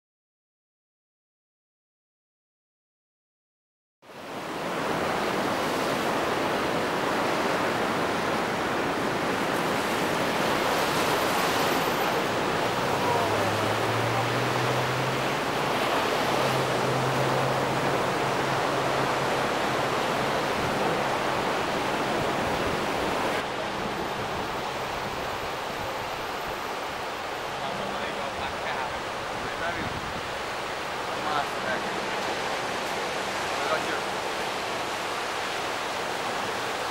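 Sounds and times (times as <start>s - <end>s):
ocean surf breaking on shore: 4.1s - 36.9s.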